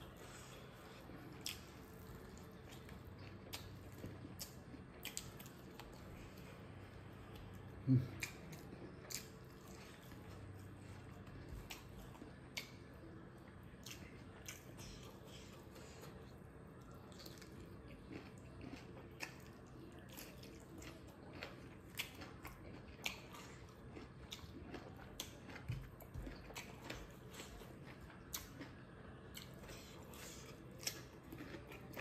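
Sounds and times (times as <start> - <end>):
person chewing: 0.0 - 32.0.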